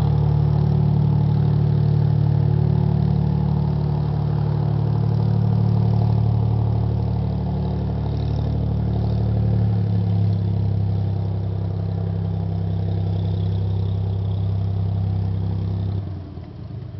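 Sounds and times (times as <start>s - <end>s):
propeller plane engine droning: 0.0s - 16.9s.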